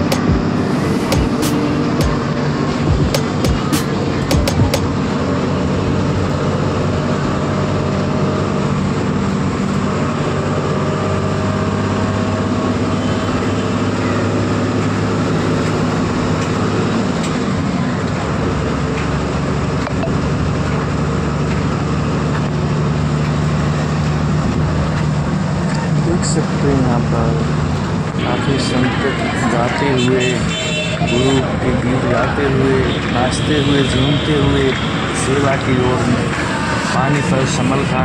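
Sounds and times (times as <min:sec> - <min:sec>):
bus engine and road drone: 0:00.0 - 0:38.0.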